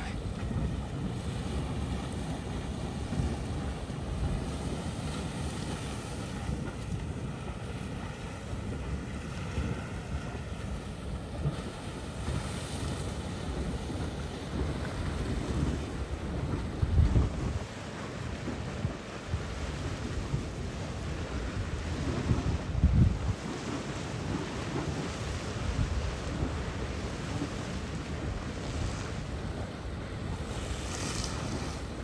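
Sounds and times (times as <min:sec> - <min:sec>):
geyser water rushing and splashing: 0:00.0 - 0:32.0
wind buffeting microphone: 0:00.0 - 0:32.0.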